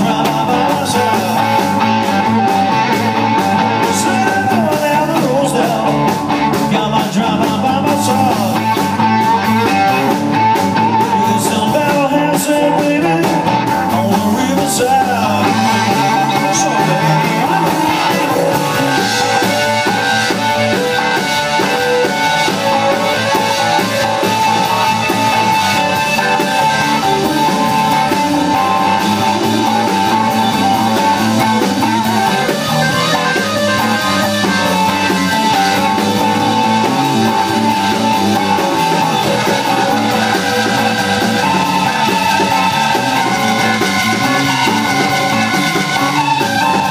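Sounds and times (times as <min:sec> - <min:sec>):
drum kit: 0:00.0 - 0:46.9
electric bass: 0:00.0 - 0:46.9
electric guitar bent notes: 0:00.0 - 0:46.9.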